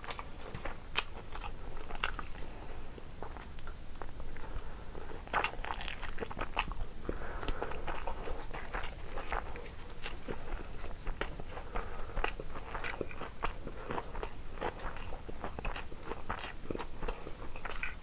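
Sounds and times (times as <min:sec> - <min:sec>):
chewing and crunching: 0:00.0 - 0:18.0.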